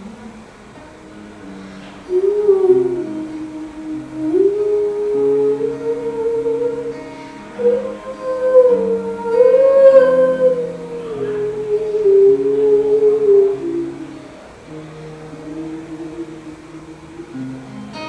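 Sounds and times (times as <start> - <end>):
low accompanying chords: 0.0 - 18.0
slow melody with sliding notes: 0.0 - 18.0.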